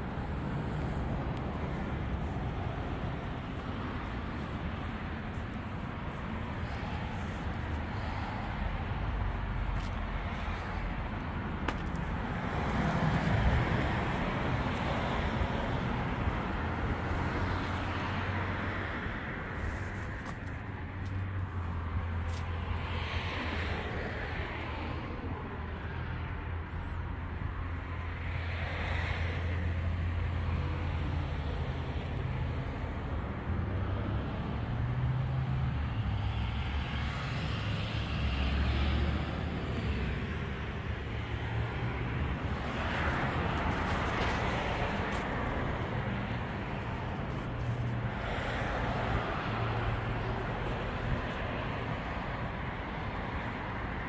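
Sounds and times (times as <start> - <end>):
road traffic rumble: 0.0 - 54.0
vehicles passing: 0.0 - 54.0.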